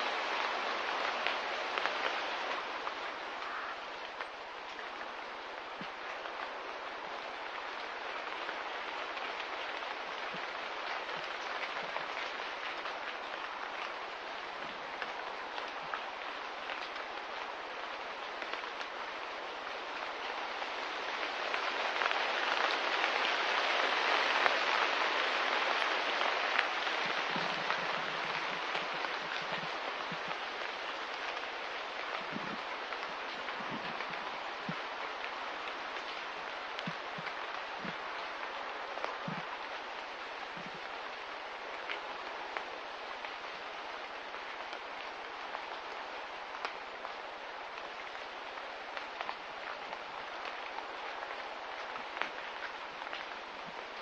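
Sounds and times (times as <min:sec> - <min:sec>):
rain patter: 0:00.0 - 0:54.0.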